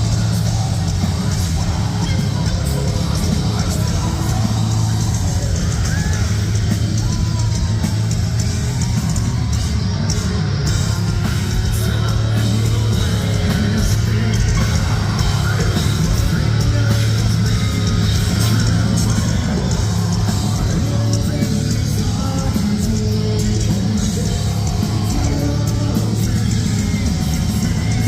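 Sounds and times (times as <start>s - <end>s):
live heavy metal band: 0.0s - 28.0s
shouted vocals: 0.0s - 28.0s.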